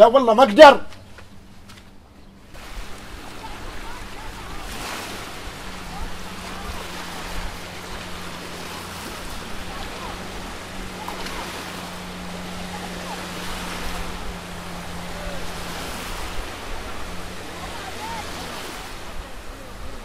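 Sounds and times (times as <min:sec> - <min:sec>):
small waves breaking on shore: 0:00.0 - 0:20.0
wind rumbling on microphone: 0:01.3 - 0:20.0.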